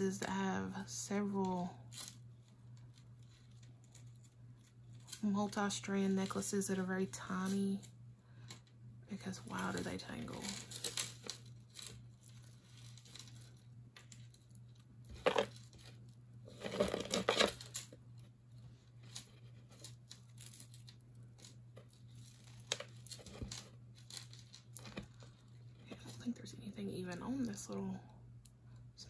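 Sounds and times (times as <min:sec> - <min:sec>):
jewelry rustling and clicking: 0:01.3 - 0:05.7, 0:06.3 - 0:28.6.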